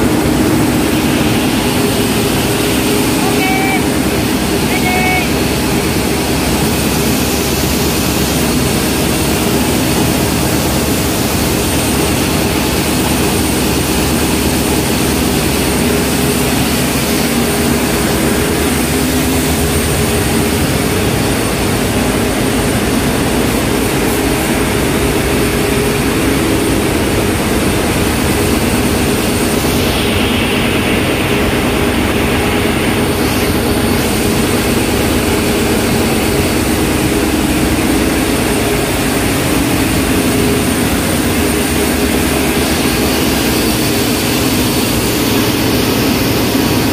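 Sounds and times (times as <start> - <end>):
marine diesel engine drone: 0.0 - 46.9.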